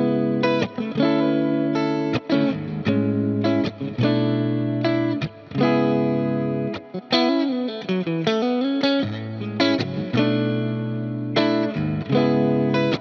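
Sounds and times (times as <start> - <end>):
electric guitar chords and notes: 0.0 - 13.0.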